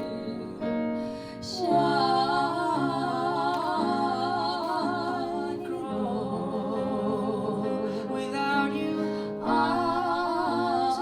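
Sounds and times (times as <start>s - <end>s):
person singing with vibrato: 0.0s - 11.0s
sustained piano chords: 0.0s - 11.0s.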